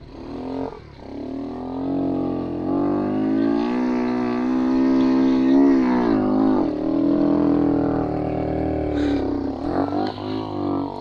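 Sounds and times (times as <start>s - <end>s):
small motorcycle engine under load: 0.0s - 11.0s.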